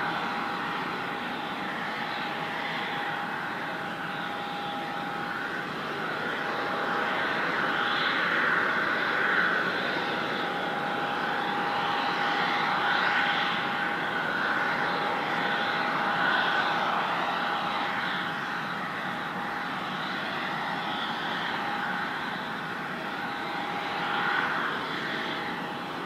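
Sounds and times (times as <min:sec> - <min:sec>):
airliner engines rushing and whining: 0:00.0 - 0:26.0.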